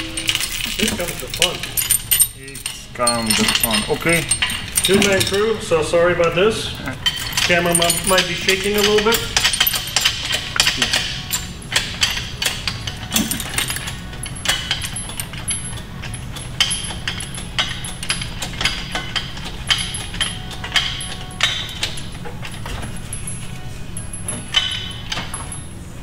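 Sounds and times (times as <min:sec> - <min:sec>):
metal chain clinking and rattling: 0:00.0 - 0:26.0
steady low hum: 0:00.0 - 0:26.0.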